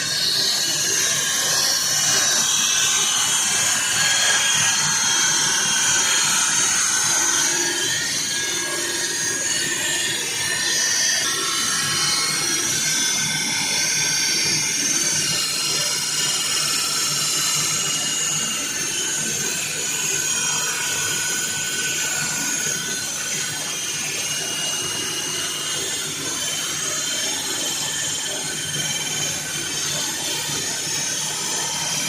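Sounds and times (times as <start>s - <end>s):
high-pitched squeal: 0.0s - 32.0s
saw blade grinding concrete: 0.0s - 32.0s.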